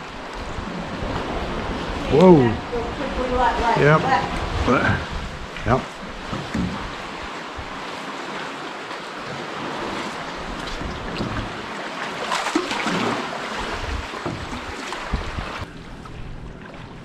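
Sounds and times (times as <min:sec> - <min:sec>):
ocean swell splashing on rocks: 0:00.0 - 0:15.8.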